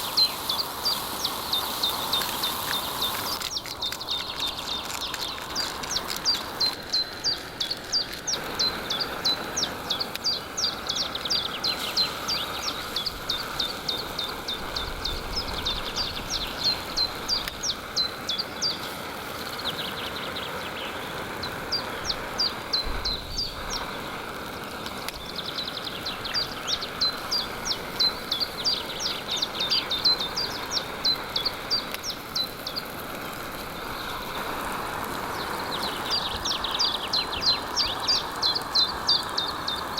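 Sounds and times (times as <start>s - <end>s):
songbird singing high notes: 0.0s - 34.3s, 35.2s - 39.9s
steady background noise: 0.0s - 39.9s.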